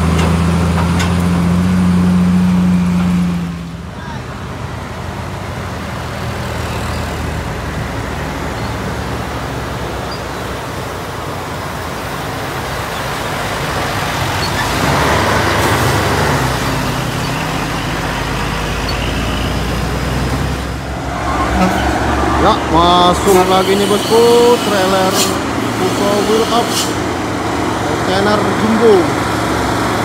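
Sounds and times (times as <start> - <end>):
heavy vehicle engine passing: 0.0 - 30.0
road and traffic noise: 0.0 - 30.0.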